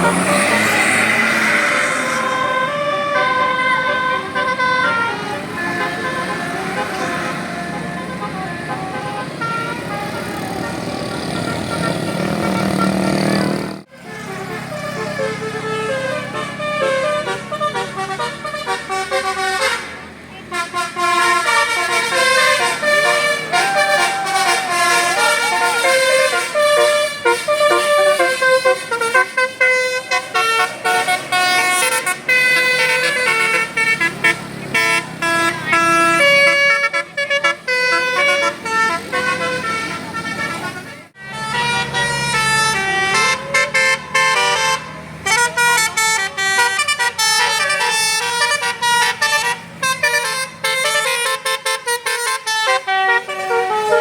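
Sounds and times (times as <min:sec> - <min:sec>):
bus horns playing melodies: 0:00.0 - 0:54.0.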